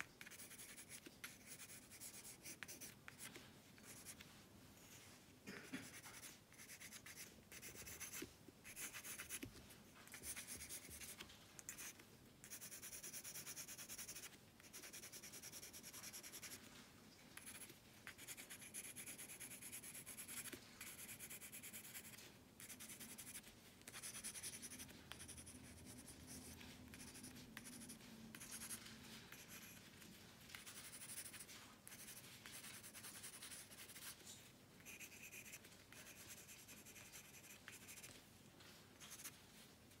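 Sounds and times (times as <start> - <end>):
pencil scratching on paper: 0.0 - 4.2, 5.5 - 16.7, 17.4 - 38.2, 39.0 - 39.4.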